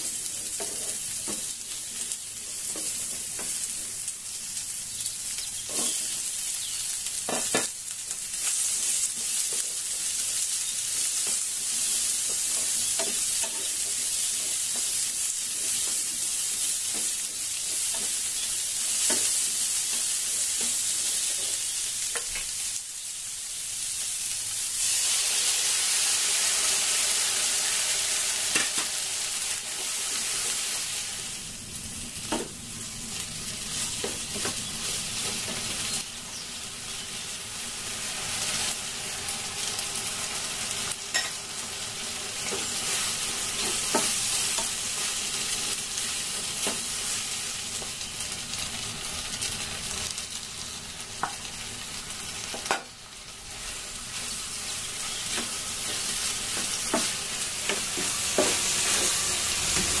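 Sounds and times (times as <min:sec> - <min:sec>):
vegetables sizzling in a frying pan: 0:00.0 - 1:00.0.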